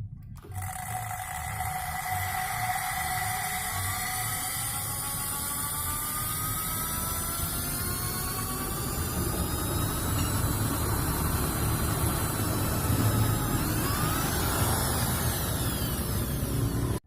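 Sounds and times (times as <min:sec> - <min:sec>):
drill motor whine: 0:00.4 - 0:17.0
valve grinding: 0:00.4 - 0:17.0.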